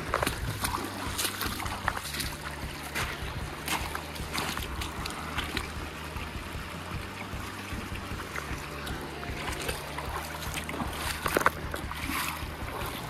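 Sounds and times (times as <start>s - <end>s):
feet splashing through creek: 0.0s - 13.0s.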